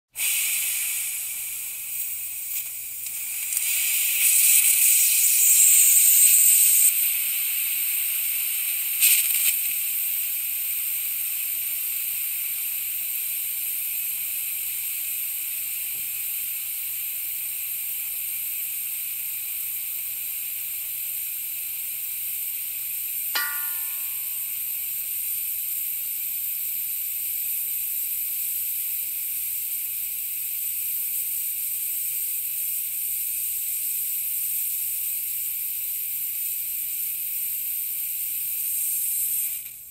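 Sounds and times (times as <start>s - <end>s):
compressed air hissing: 0.1s - 39.9s.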